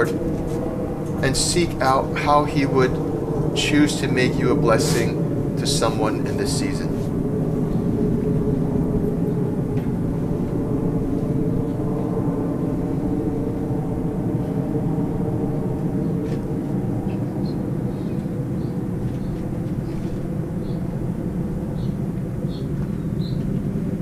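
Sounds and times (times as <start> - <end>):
outdoor background rumble: 0.0 - 24.0.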